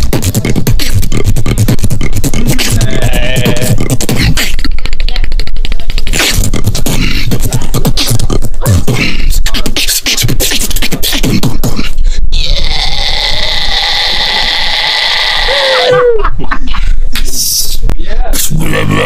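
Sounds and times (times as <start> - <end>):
person beatboxing: 0.0 - 19.0.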